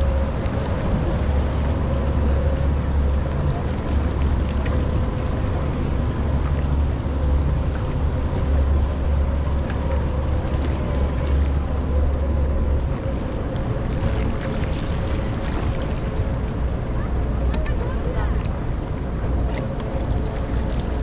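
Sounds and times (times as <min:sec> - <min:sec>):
boat motor rumbling: 0:00.0 - 0:21.0
rushing water: 0:00.0 - 0:21.0
wind on microphone: 0:00.0 - 0:21.0.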